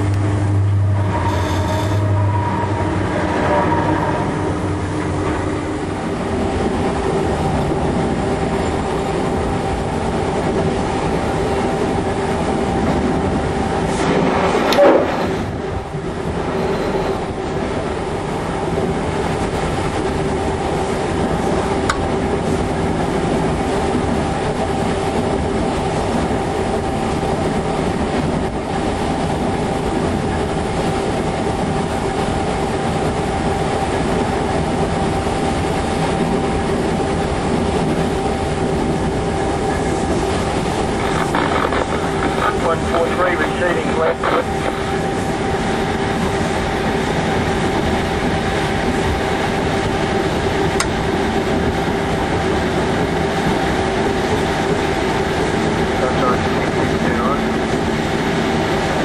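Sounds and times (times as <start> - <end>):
constant hum: 0.0 - 59.0
locomotive engine running: 0.0 - 59.0.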